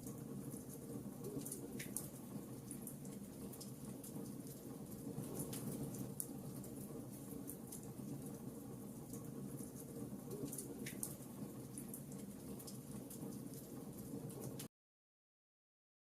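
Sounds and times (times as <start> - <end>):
wood fire crackling: 0.0 - 14.7.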